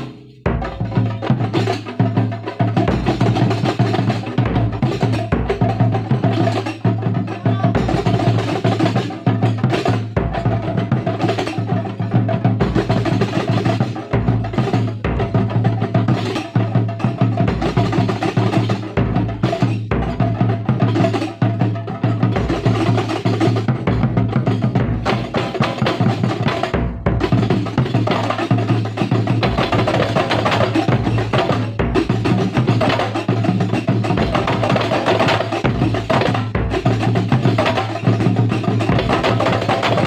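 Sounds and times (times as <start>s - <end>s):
deep bass drum beats: 0.0s - 40.0s
hand-struck frame drums: 0.0s - 40.0s.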